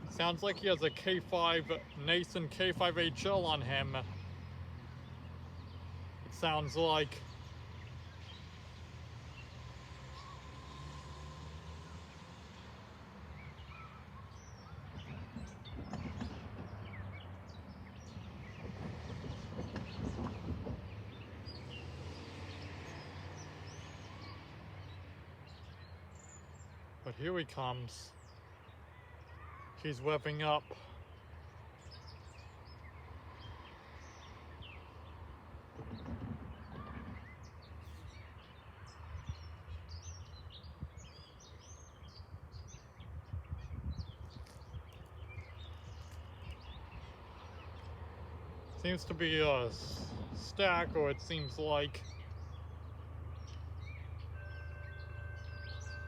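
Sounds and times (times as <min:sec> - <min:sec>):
birds chirping: 0:00.0 - 0:56.0
distant diesel locomotives rumbling: 0:00.0 - 0:56.0.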